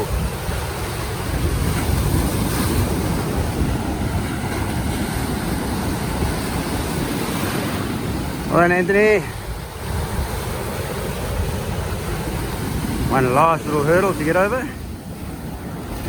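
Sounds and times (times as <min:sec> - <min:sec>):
surf breaking and washing: 0:00.0 - 0:16.0
wind rumbling on microphone: 0:00.0 - 0:16.0.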